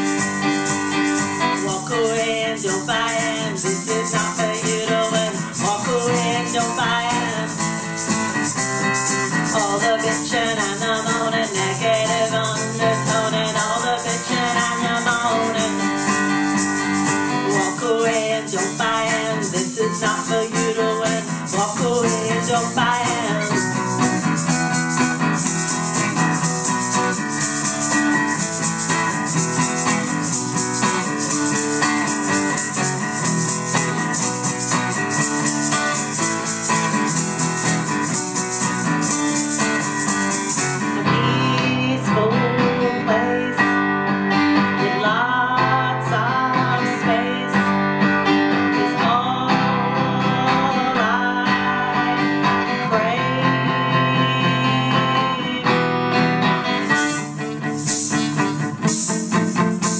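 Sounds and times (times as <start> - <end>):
maracas shaking: 0.0 - 42.2, 46.6 - 59.9
acoustic guitar strumming: 0.0 - 59.9.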